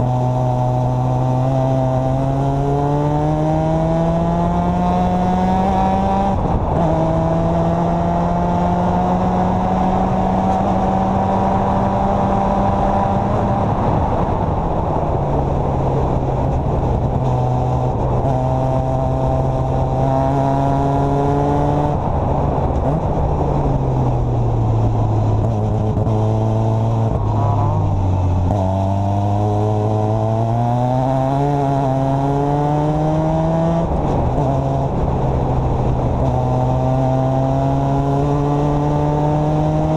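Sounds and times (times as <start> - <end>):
racing car engine: 0.0 - 39.9
rushing wind noise: 0.0 - 39.9.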